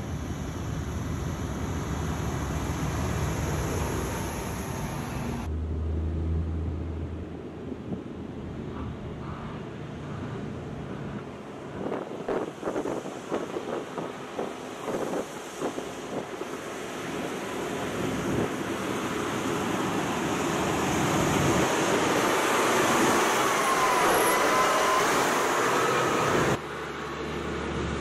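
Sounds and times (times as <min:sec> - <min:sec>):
truck engine and tyre noise: 0:00.0 - 0:28.0.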